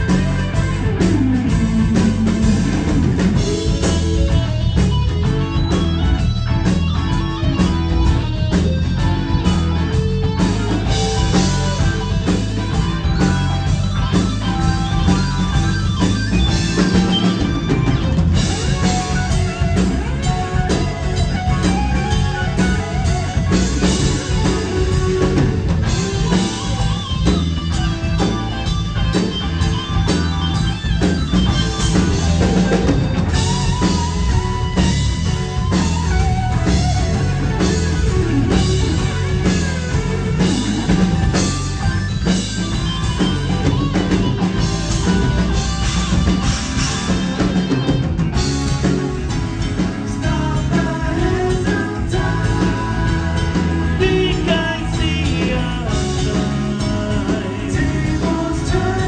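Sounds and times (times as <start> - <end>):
bass guitar: 0.0 - 59.0
drum kit: 0.0 - 59.0
electric guitar: 0.0 - 59.0
keyboards: 0.0 - 59.0.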